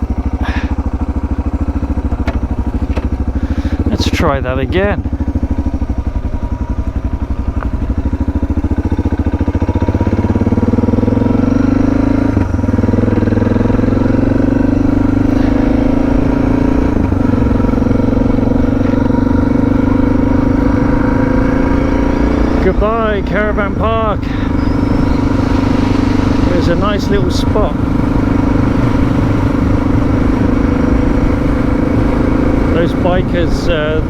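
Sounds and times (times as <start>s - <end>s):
motorcycle engine idling and pulling away: 0.0s - 34.0s.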